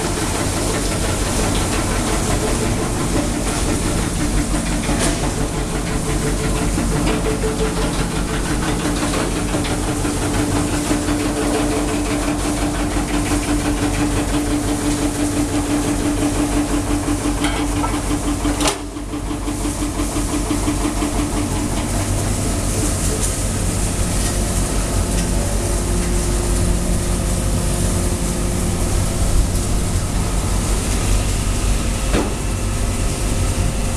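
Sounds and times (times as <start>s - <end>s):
mixer machine running: 0.0s - 33.9s.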